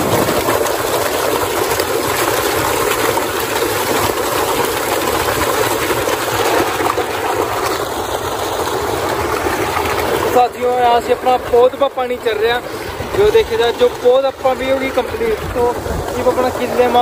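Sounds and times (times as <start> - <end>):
water gushing from pipe: 0.0 - 17.0.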